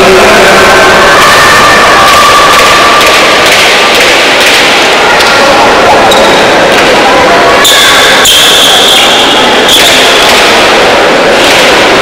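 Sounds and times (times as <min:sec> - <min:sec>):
loud constant din: 0:00.0 - 0:12.0.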